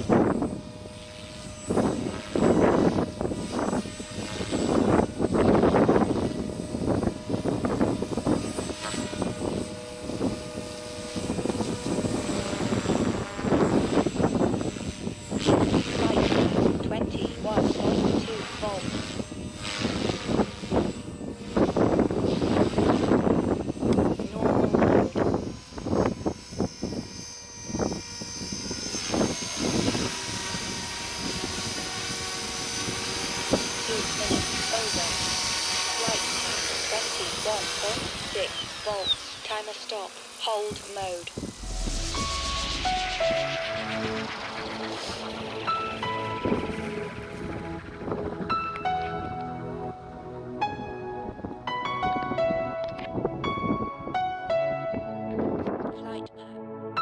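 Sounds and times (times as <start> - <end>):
helicopter rotor noise: 0.0 - 54.2
electric motor whine: 0.0 - 55.8.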